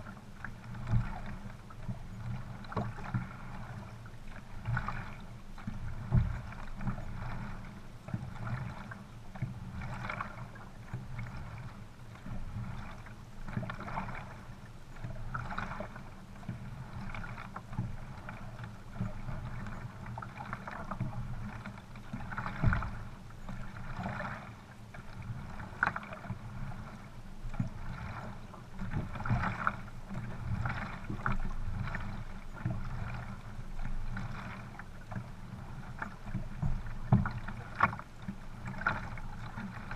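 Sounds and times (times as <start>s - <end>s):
paddle strokes splashing: 0.0s - 39.9s
water rushing along a boat hull: 0.0s - 39.9s.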